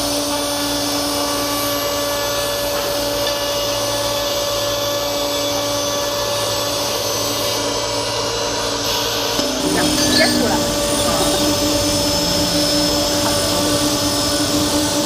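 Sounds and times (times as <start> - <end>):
machine motors whining: 0.0 - 15.0.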